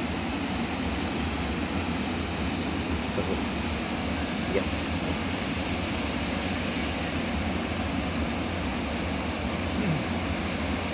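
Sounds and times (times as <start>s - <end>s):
train rumbling with hiss: 0.0s - 10.9s.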